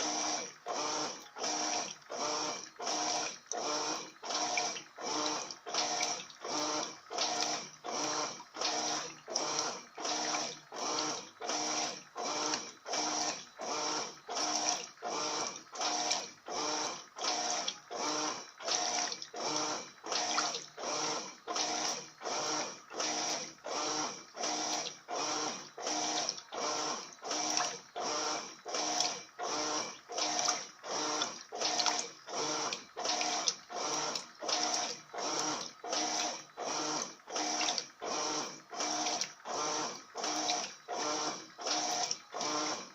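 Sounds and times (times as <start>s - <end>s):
washing machine agitating: 0.0s - 42.9s.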